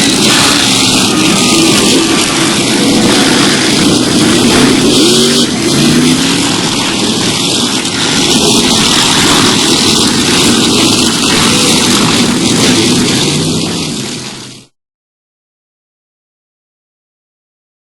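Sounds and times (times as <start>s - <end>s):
monster truck engine revving: 0.0s - 14.7s.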